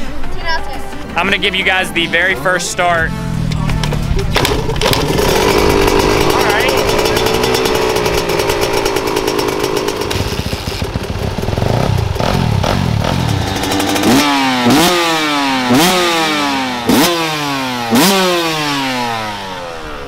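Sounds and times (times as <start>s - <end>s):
dirt bike engine idling and revving: 0.9s - 20.0s.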